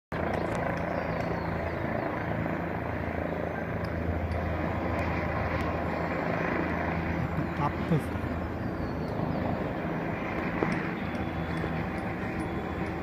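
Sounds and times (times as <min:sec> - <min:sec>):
helicopter rotor and engine drone: 0:00.1 - 0:13.0
low hum: 0:00.2 - 0:13.0.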